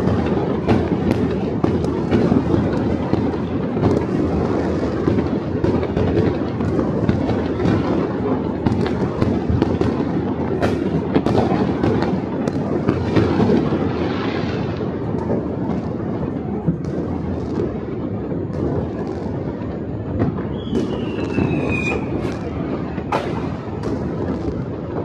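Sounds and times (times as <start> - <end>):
firecrackers cracking: 0.0 - 25.0
fireworks booming: 0.0 - 25.0.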